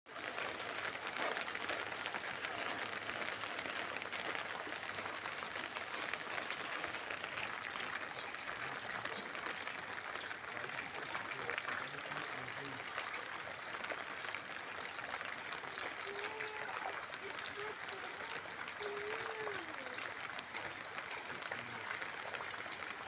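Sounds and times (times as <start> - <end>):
rain falling: 0.1 - 23.0.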